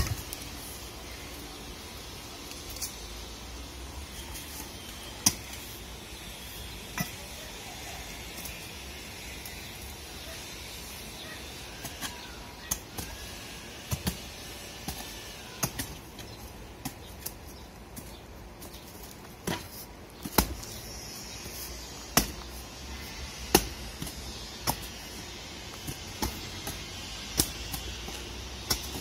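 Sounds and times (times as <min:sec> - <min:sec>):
hand tool chopping roots and earth: 0:04.1 - 0:29.0.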